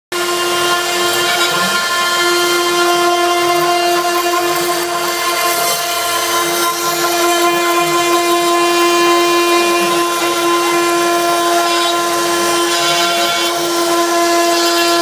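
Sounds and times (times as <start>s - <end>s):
router spindle whine: 0.1s - 15.0s.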